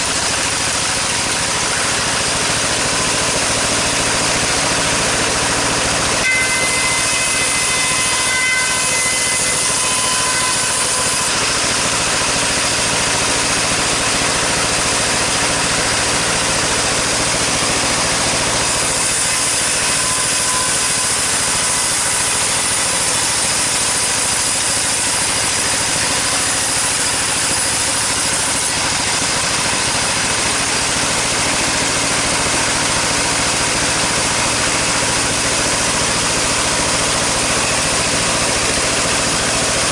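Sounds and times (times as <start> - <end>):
saw cutting timber: 0.0 - 39.9
motor humming: 0.9 - 39.9.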